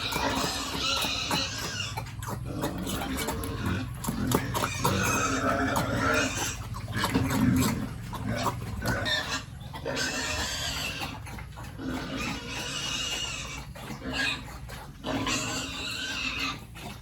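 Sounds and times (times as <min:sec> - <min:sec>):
pigs grunting and oinking: 0:00.0 - 0:17.0.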